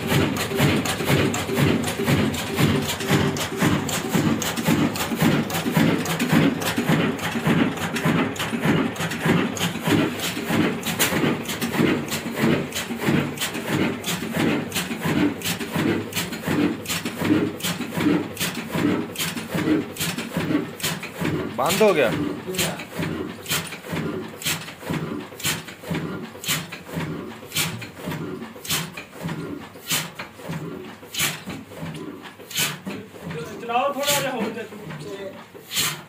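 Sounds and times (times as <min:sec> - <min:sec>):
diesel engine running rhythmically: 0:00.0 - 0:36.0.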